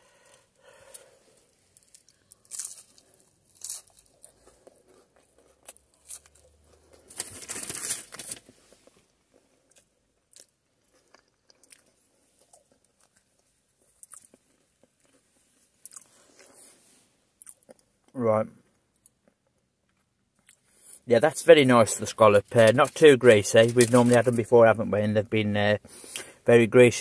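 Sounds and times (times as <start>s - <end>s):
crunching battered food: 0.1s - 24.6s.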